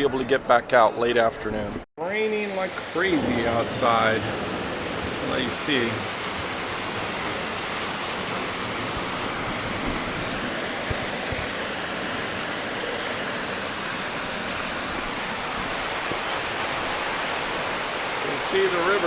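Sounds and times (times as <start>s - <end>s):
heavy rain pouring: 2.2s - 19.0s.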